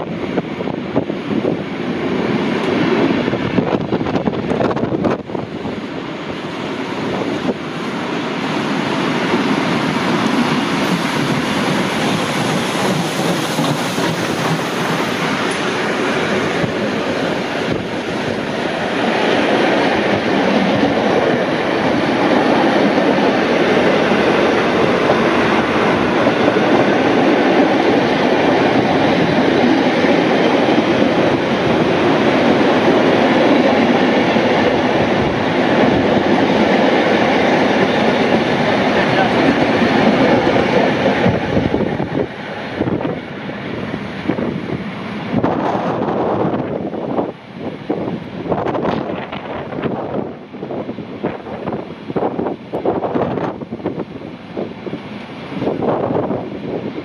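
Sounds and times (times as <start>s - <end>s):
train carriages rushing past: 0.0s - 57.0s
train running noise: 0.0s - 57.0s.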